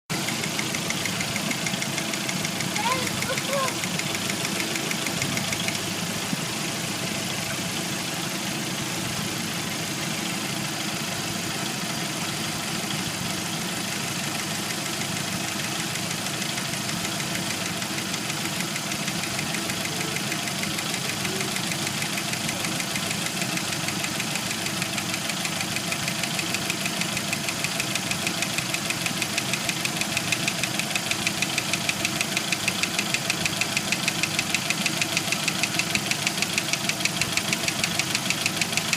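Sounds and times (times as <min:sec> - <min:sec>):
car engine idling: 0:00.1 - 0:38.9
engine knocking: 0:00.1 - 0:38.9.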